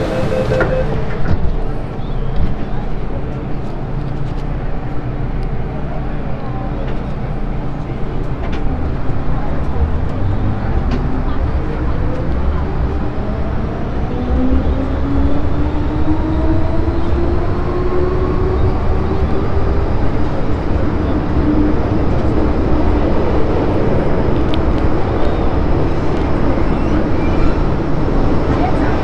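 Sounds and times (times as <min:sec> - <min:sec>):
rumble of wheels on track: 0:00.0 - 0:29.0.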